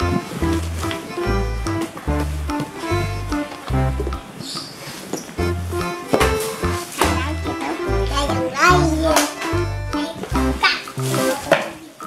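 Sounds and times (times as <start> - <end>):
stepping bass line: 0.0 - 4.2, 5.4 - 11.5
melody of held notes: 0.0 - 4.5, 5.4 - 11.6.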